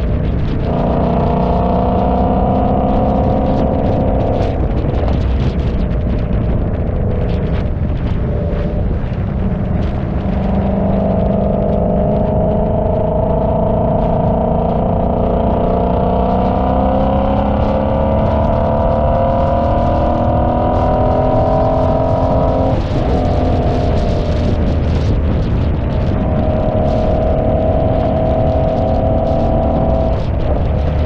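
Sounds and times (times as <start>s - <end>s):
car engine revving under load: 0.0s - 31.0s.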